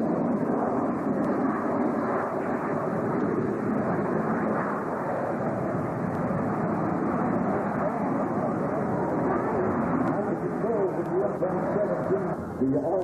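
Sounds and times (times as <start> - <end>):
jet engine noise: 0.0 - 13.0.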